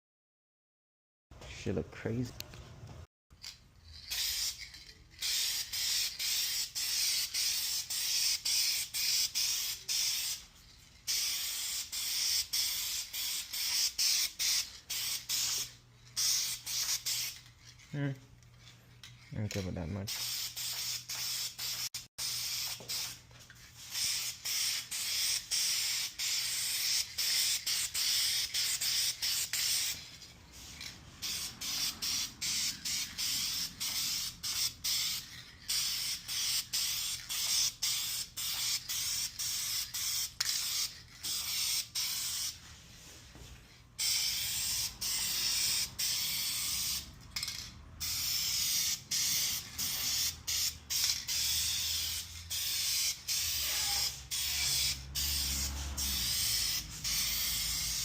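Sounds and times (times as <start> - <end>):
spray paint can hissing: 3.9 - 17.6, 20.1 - 42.6, 44.0 - 58.0.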